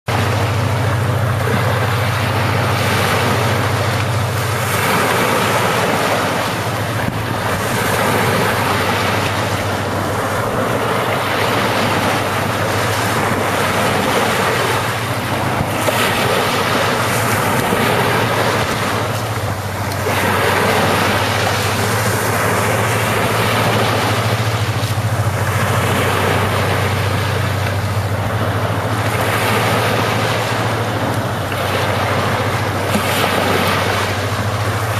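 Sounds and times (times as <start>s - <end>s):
low rumble: 0.1s - 34.9s
ocean waves on shore: 0.1s - 34.9s
wind on microphone: 0.1s - 34.9s.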